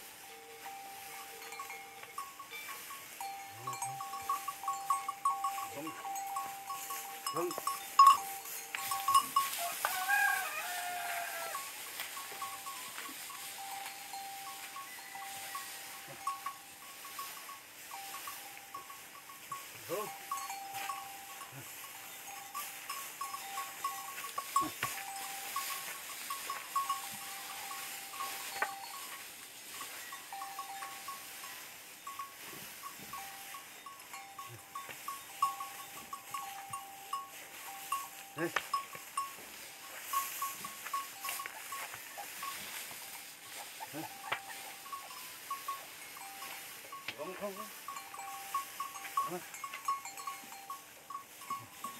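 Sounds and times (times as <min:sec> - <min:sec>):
bells tinkling: 0:00.0 - 0:51.9.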